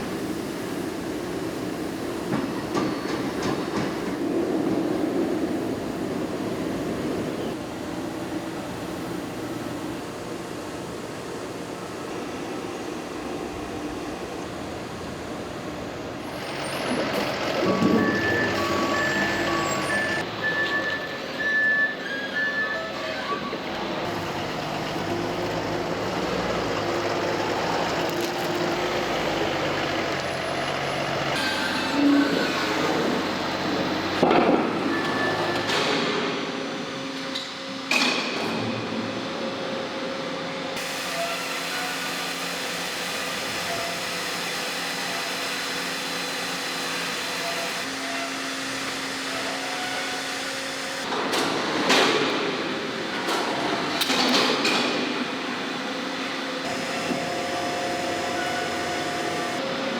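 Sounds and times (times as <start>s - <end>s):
factory machinery running: 0.0s - 59.9s.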